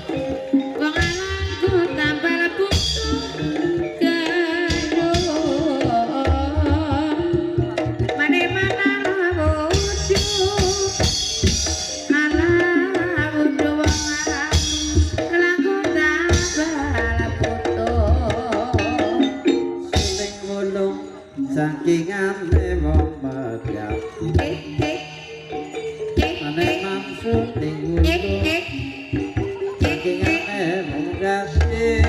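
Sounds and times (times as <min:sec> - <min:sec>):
hand drums beating: 0:00.0 - 0:32.0
pitched percussion melody: 0:00.0 - 0:32.0.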